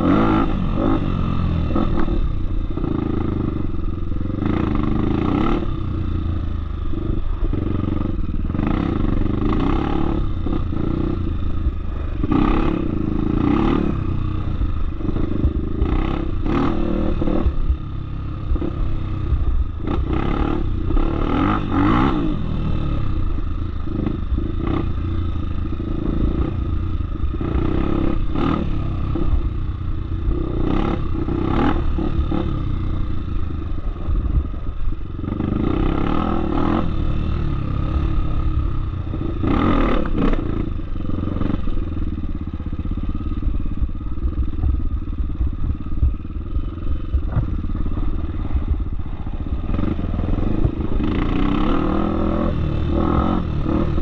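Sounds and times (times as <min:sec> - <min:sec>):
off-road motorcycle engine: 0:00.0 - 0:54.0.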